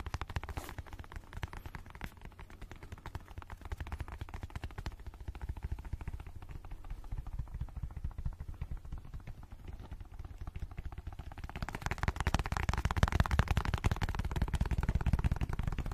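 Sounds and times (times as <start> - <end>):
fast fingertip tapping on case: 0.0 - 15.9.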